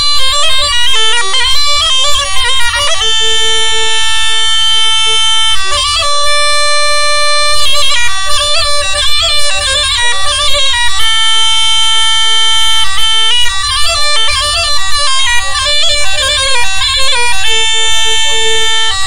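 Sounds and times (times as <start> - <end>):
bagpipe melody: 0.0 - 19.0.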